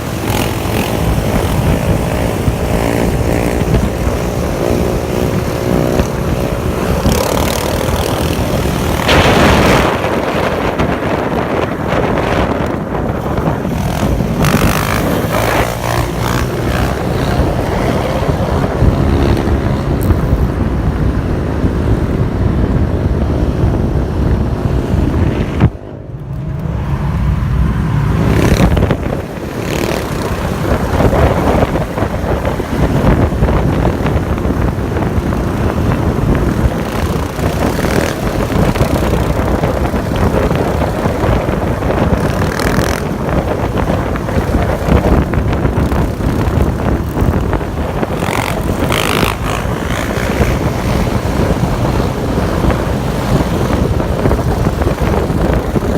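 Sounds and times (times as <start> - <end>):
engine running under way: 0.0 - 22.2, 26.4 - 55.9
wind buffeting on microphone: 0.0 - 55.9.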